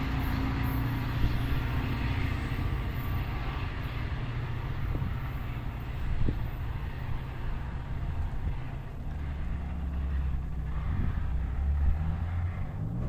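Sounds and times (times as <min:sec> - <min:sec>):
train locomotive rumbling: 0:00.0 - 0:13.0.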